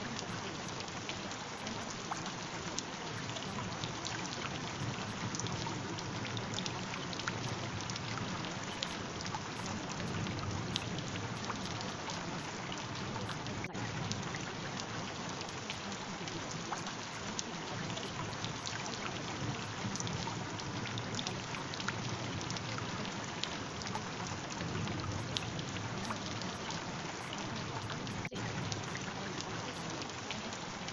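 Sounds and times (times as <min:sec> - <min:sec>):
raindrop ticks: 0:00.0 - 0:30.9
steady rain: 0:00.0 - 0:30.9.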